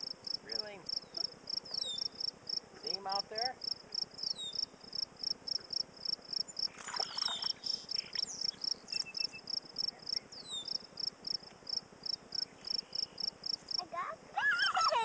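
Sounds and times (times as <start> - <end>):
cricket chirping: 0.0 - 13.8.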